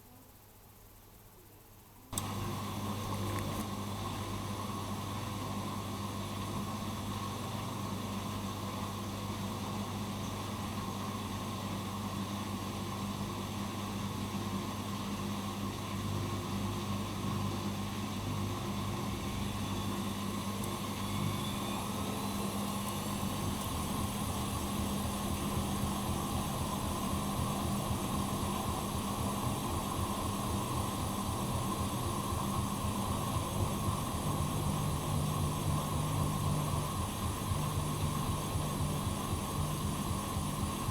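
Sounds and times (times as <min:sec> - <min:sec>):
washing machine running: 0:02.1 - 0:40.9.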